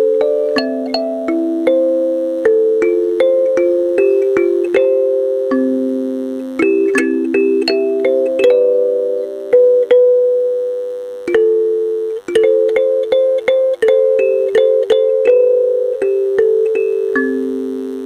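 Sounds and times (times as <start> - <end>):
slow music-box melody: 0.0 - 18.0.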